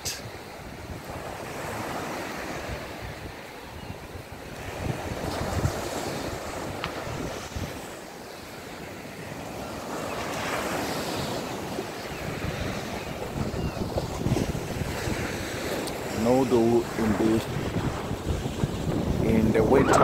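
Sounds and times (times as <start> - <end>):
wind on microphone: 0.0 - 8.0, 9.3 - 20.0
sea waves breaking on beach: 0.0 - 20.0.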